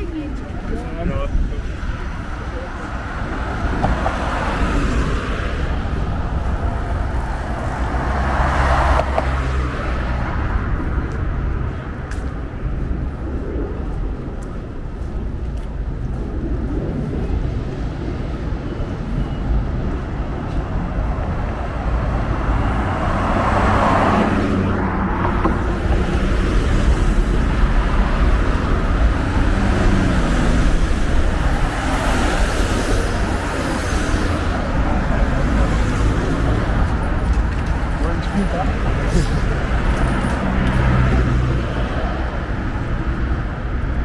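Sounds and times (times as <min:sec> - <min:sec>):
cars passing by: 0:00.0 - 0:44.0
low traffic rumble: 0:00.0 - 0:44.0.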